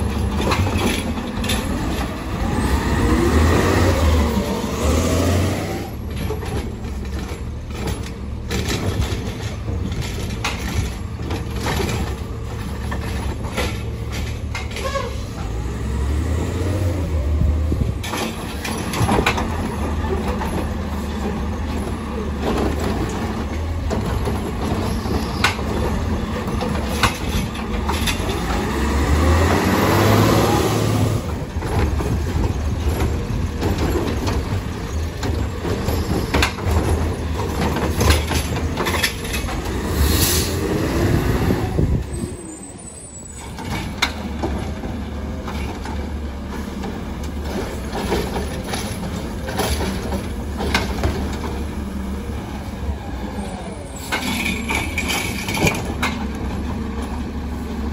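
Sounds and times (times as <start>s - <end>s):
garbage truck engine running: 0.0s - 57.9s.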